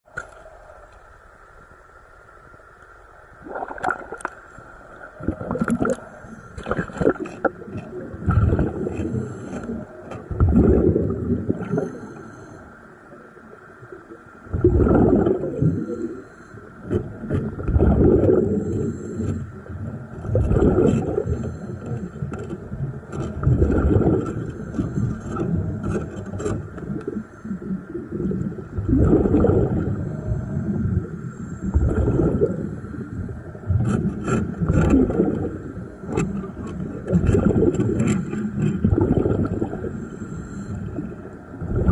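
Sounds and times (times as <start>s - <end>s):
exhaled bubbles underwater: 3.3s - 41.9s.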